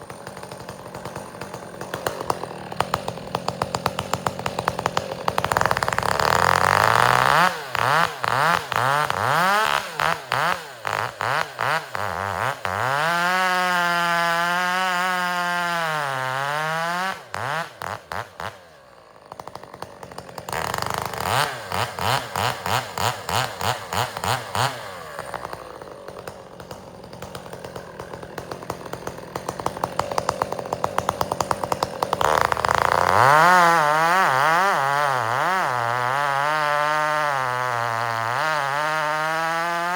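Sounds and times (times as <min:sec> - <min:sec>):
chainsaw revving in a cut: 0:00.0 - 0:39.9.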